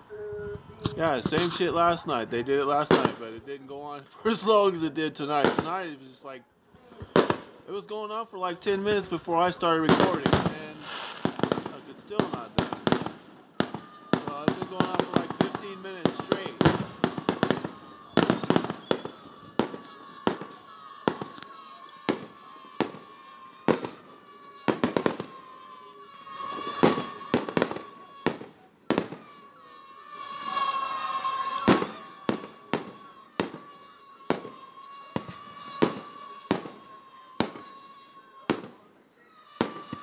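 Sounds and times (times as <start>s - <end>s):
fireworks crackling: 0.6s - 6.2s, 7.0s - 40.0s
fireworks banging: 0.8s - 3.5s, 4.3s - 5.9s, 7.0s - 7.7s, 8.6s - 38.8s, 39.5s - 40.0s.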